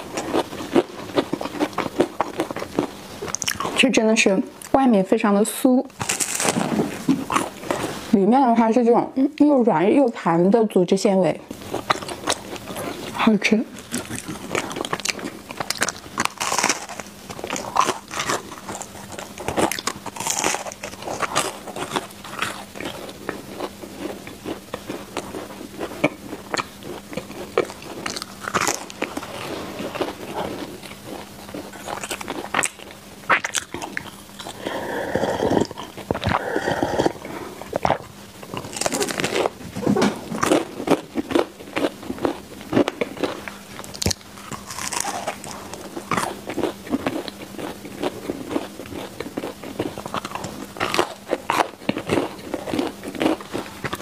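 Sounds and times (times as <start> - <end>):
chewing: 0.0 - 3.8, 6.0 - 8.0, 11.6 - 13.2, 13.8 - 54.0
crunchy biting: 0.0 - 3.8, 6.0 - 8.0, 11.6 - 13.2, 13.8 - 54.0.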